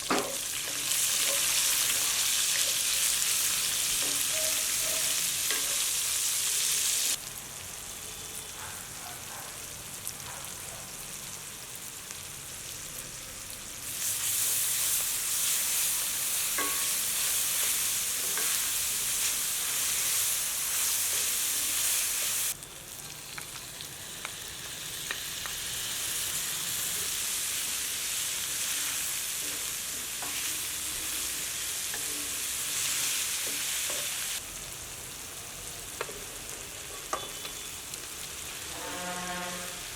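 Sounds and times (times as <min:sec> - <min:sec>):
food sizzling in hot oil: 0:00.0 - 0:08.5, 0:10.9 - 0:39.9.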